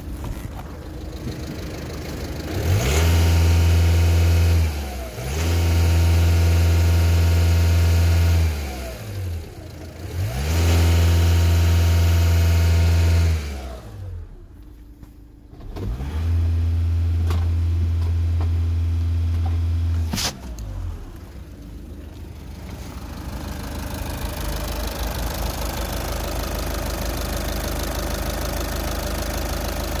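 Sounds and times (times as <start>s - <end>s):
diesel engine revving and idling: 0.0s - 30.0s.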